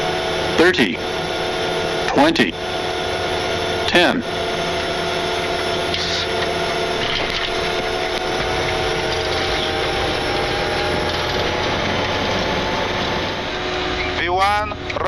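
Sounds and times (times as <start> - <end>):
airliner engine noise: 0.0 - 15.0
steady whining tones: 0.0 - 15.0.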